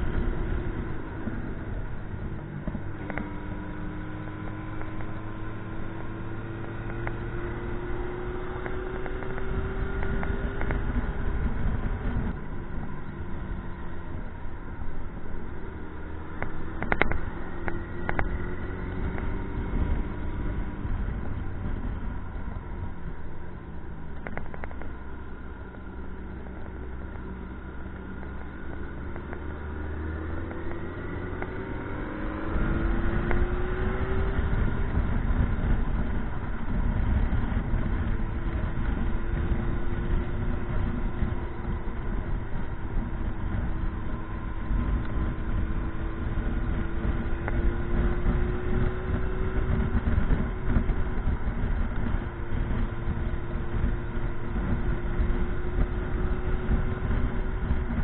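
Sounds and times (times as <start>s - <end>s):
low rumble: 0.0s - 58.0s
motorcycle engine running: 0.0s - 58.0s.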